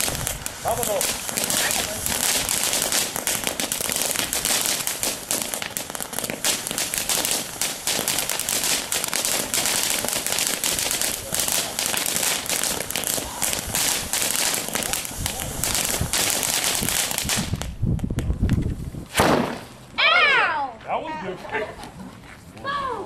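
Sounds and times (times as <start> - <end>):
fireworks crackling: 0.0 - 20.4.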